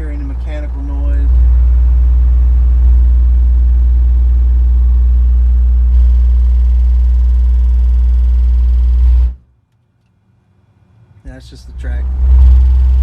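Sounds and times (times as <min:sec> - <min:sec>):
low bass test tone: 0:00.0 - 0:09.4, 0:11.3 - 0:13.0
steady buzz: 0:00.0 - 0:09.4, 0:11.3 - 0:13.0.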